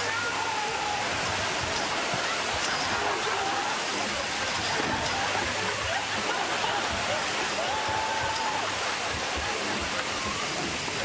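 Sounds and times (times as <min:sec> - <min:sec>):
shower spraying water: 0:00.0 - 0:11.0.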